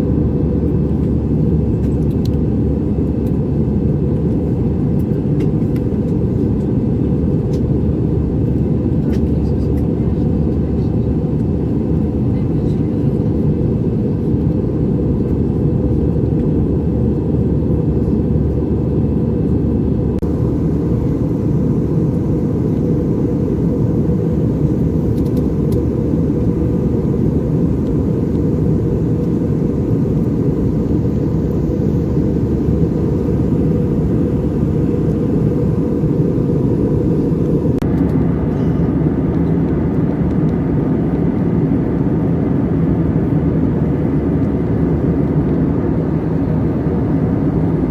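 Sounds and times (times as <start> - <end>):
jet airliner cabin drone: 0.0 - 47.9.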